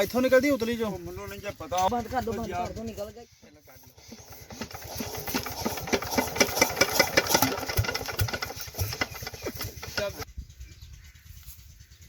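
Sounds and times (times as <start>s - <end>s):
diesel engine clattering: 0.0s - 12.0s.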